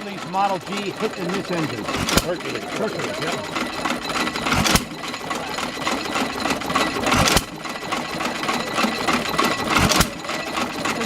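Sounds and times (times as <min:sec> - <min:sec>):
engine firing beats: 0:00.0 - 0:11.0
engine mechanical clatter: 0:00.0 - 0:11.0.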